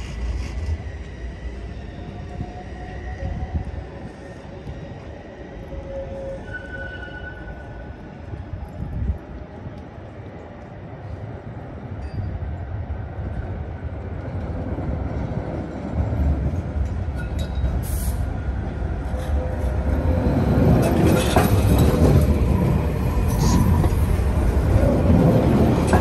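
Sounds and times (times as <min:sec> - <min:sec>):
tram wheels rumbling on track: 0:00.0 - 0:26.0.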